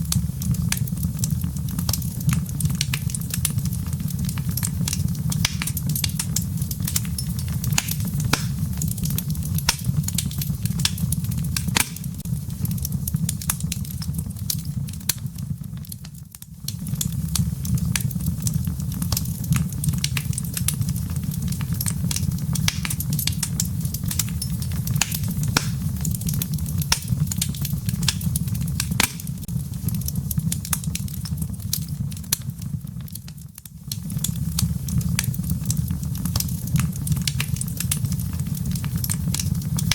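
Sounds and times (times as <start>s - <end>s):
burning wood crackling and popping: 0.0s - 39.9s
fire flames rumbling: 0.0s - 39.9s.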